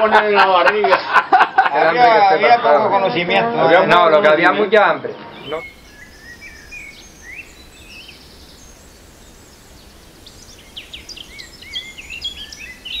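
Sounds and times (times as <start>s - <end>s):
small birds chirping: 1.7s - 13.0s.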